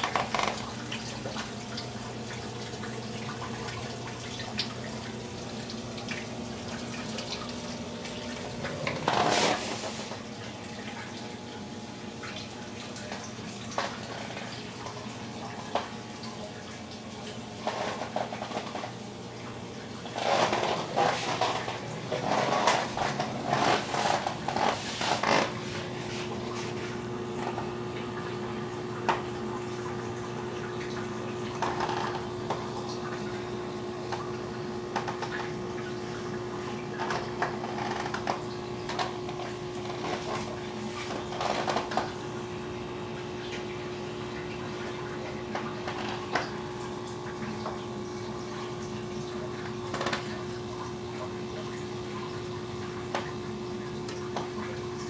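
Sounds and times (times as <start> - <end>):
aquarium water trickling and splashing: 0.0 - 55.0
steady hum: 0.0 - 55.0.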